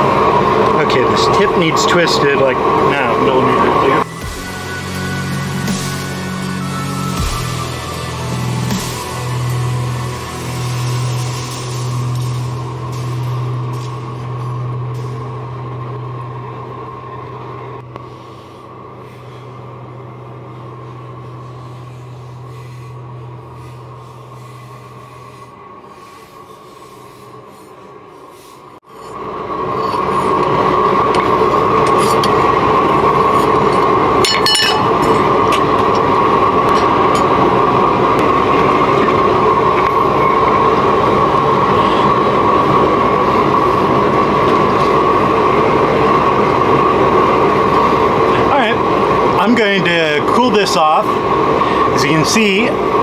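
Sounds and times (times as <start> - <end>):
forge roaring: 0.0 - 53.0
low hum: 0.0 - 53.0.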